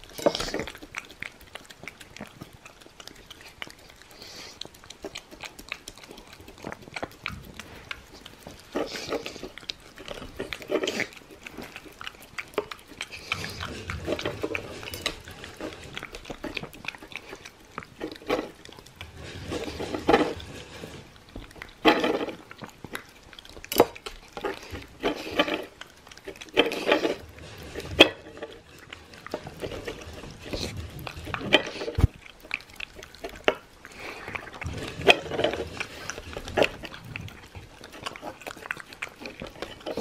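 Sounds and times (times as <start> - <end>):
dog licking and chewing: 0.0 - 40.0.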